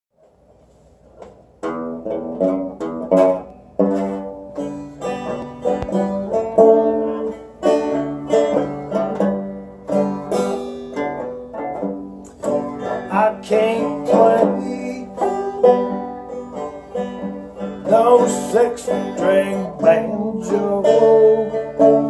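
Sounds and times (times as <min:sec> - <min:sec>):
banjo strummed in chords: 0:01.4 - 0:22.0.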